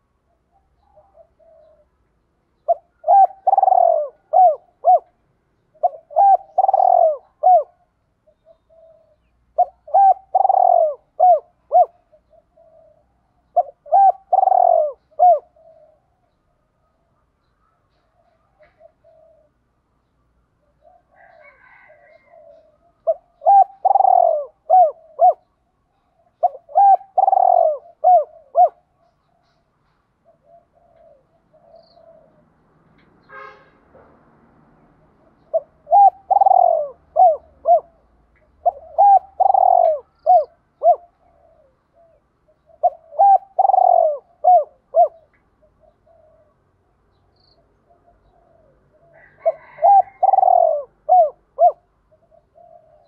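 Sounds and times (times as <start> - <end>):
dove cooing: 0.0 - 2.0, 2.6 - 19.7, 20.6 - 32.6, 35.2 - 46.7, 47.8 - 53.0.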